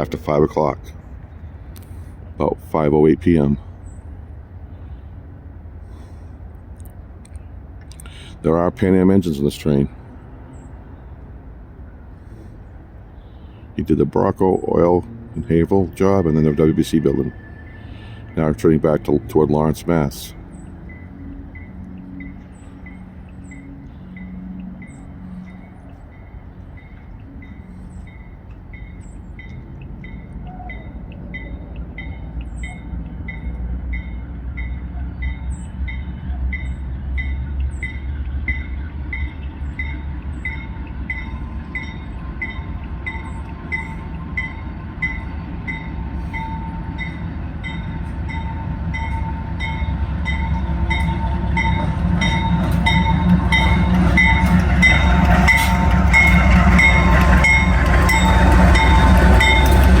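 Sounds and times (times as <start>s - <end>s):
diesel locomotives rumbling: 0.0s - 60.0s.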